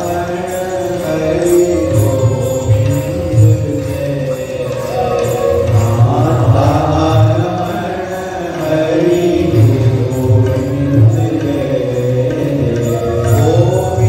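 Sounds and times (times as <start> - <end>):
devotional chanting to music: 0.0 - 14.0.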